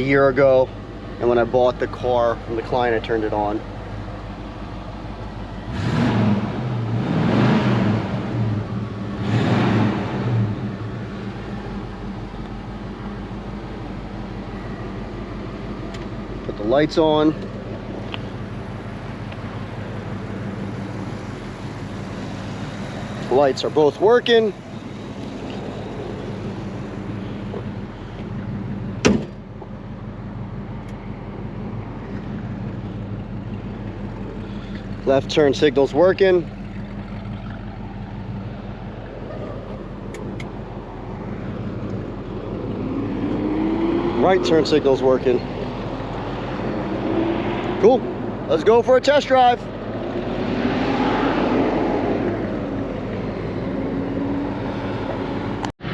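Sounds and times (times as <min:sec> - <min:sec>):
car engine idling and surging: 0:00.0 - 0:55.9.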